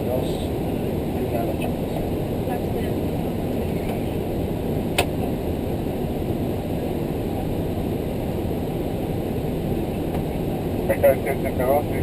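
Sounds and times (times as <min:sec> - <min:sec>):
cockpit airflow and engine noise: 0:00.0 - 0:12.0.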